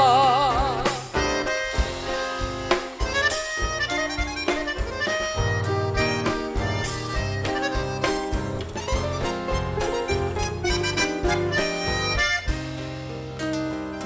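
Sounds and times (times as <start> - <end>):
accordion melody: 0.0 - 14.0
drums beating: 0.0 - 14.0
guitar: 0.0 - 14.0.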